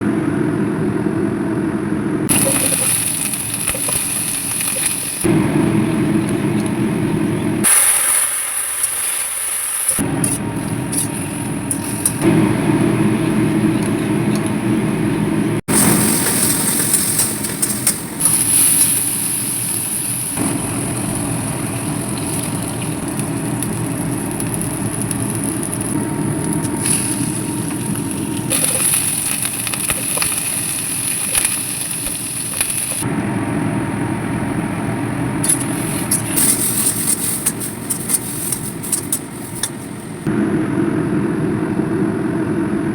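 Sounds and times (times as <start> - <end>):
food sizzling in hot pan: 2.3 - 14.6, 15.7 - 33.1, 35.4 - 40.2.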